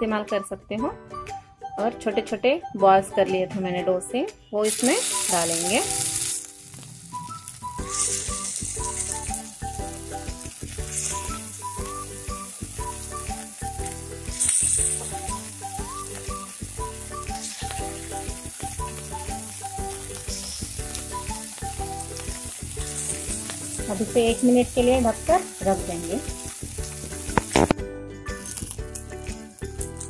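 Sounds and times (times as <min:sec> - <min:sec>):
background music with plucked melody: 0:00.0 - 0:30.0
oil sizzling in a pan: 0:04.6 - 0:30.0.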